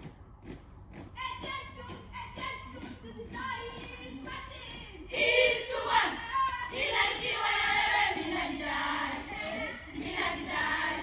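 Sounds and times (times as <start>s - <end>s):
girls singing a marching song: 0.9s - 11.0s.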